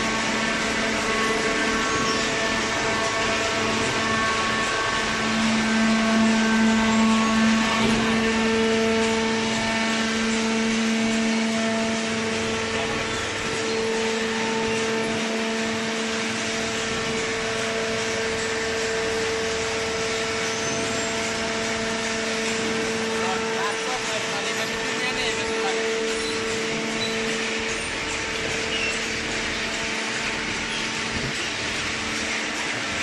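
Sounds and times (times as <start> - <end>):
baler motor humming: 0.0 - 33.0
high-pitched whine: 0.0 - 33.0.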